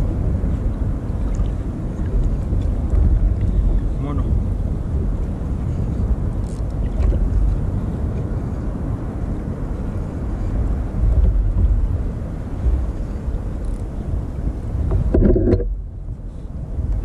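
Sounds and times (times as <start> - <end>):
water washing against hull: 0.0 - 17.0
wind on microphone: 0.0 - 17.0.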